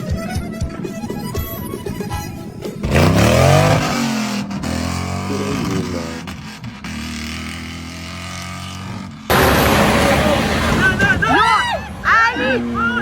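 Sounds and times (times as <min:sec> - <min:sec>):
off-road vehicle engine revving: 0:00.4 - 0:13.0.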